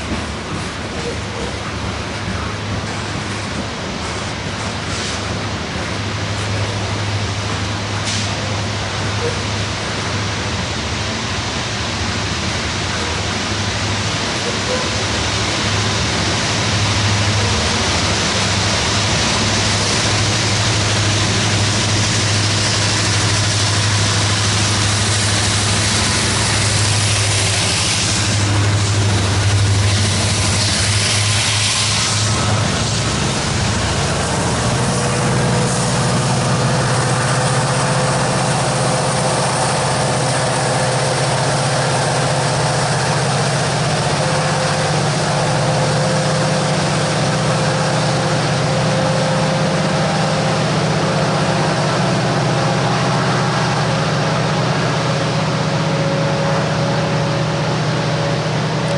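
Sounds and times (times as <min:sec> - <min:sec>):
diesel locomotive engine drone: 0:00.0 - 0:58.9
rolling train noise: 0:00.0 - 0:58.9.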